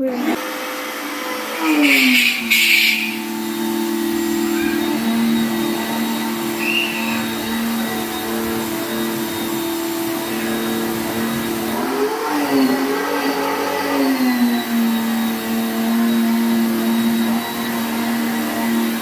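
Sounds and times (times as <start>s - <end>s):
pressure washer motor humming: 0.0s - 19.0s.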